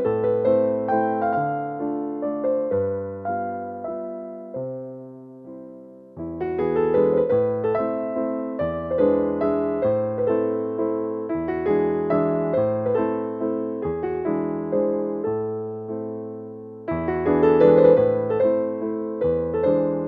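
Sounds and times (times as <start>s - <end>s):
gentle keyboard tune: 0.0s - 20.0s.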